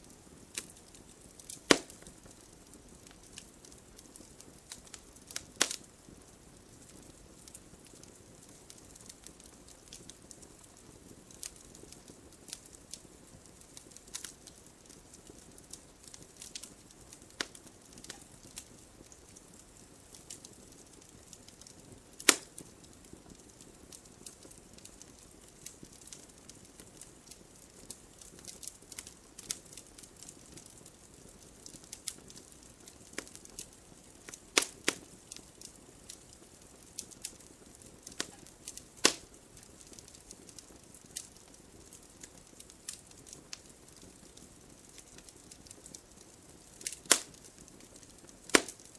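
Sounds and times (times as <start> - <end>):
campfire crackling and popping: 0.0 - 48.9
soft fire hiss: 0.0 - 48.9.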